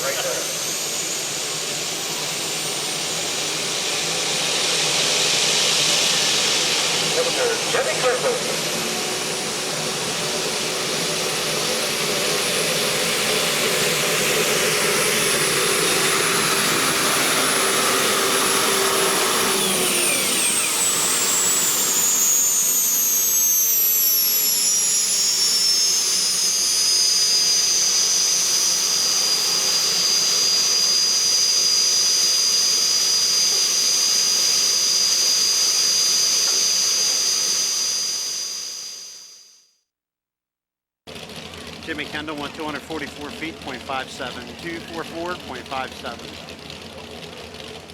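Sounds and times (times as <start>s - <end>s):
tractor engine roaring: 0.0s - 38.3s, 41.1s - 47.9s
high engine whine: 0.0s - 39.6s, 41.1s - 47.9s.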